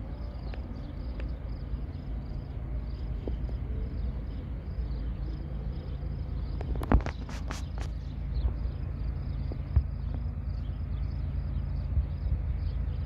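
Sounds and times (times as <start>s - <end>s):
distant diesel freight train rumble: 0.0s - 13.0s
insects chirping: 0.0s - 13.0s.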